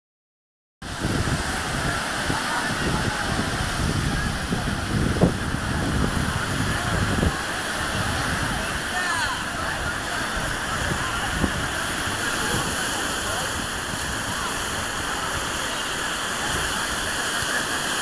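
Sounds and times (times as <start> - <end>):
small waves breaking on beach: 0.8 - 18.0
wind buffeting microphone: 0.9 - 17.2
faint voices: 0.9 - 18.0.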